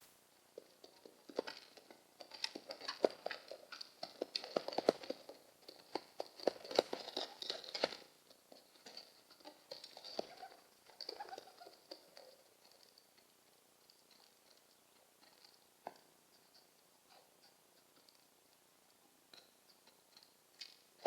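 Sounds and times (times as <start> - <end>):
pigeons tapping and rustling: 0.6 - 18.2.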